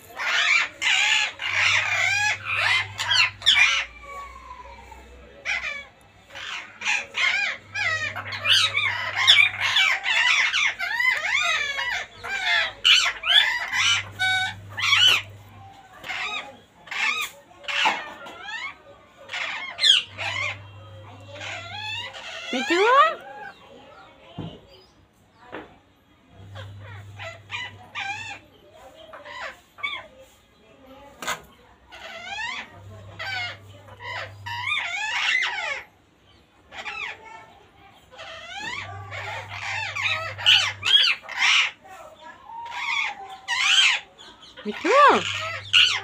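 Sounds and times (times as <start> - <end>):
parakeets calling: 0.0 - 25.5, 26.1 - 46.0.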